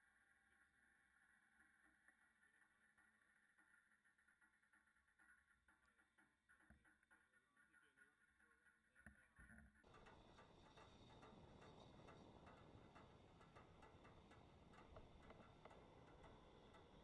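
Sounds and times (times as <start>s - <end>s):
light irregular ticks: 1.6s - 17.0s.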